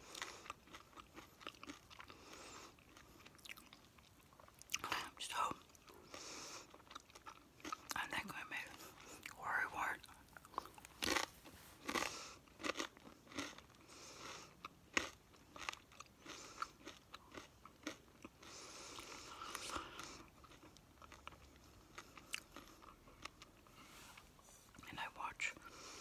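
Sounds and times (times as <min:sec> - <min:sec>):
crunchy food chewing: 0:00.0 - 0:26.0.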